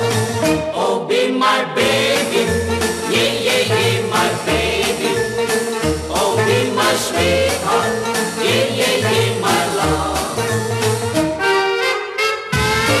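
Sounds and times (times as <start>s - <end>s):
swing band playing: 0.0s - 0.8s, 1.8s - 13.0s.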